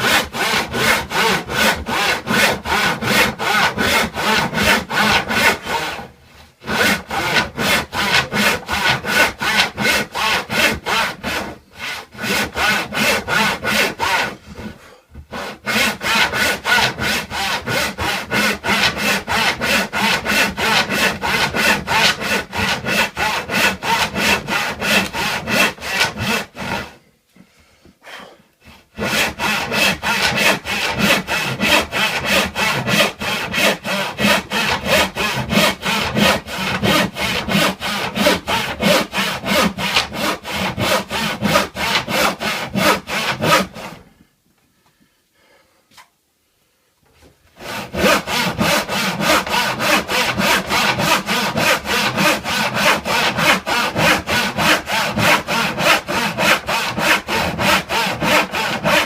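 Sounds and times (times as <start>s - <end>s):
hand saw cutting wood: 0.0s - 27.0s, 28.6s - 44.0s, 47.6s - 59.0s.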